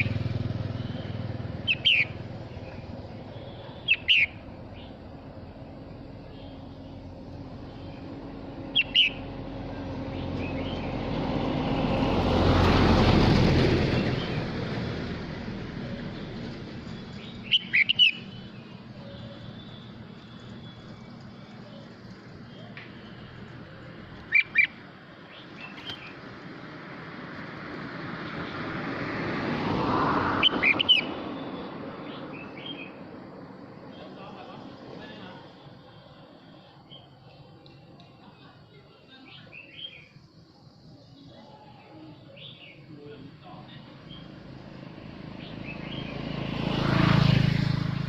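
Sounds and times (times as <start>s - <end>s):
vehicle passing by: 0.0s - 37.6s, 42.3s - 48.0s.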